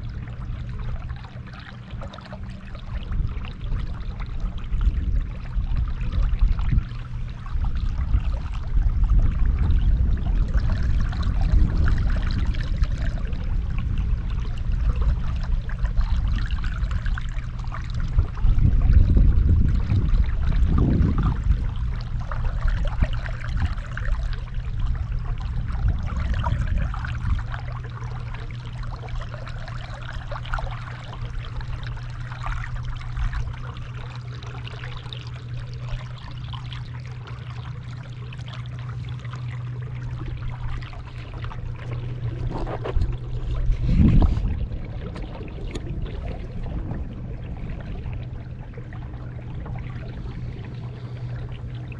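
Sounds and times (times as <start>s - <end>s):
steady low hum: 0.0s - 51.9s
water lapping against boat hull: 0.0s - 51.9s
wind rumbling on microphone: 0.0s - 51.9s.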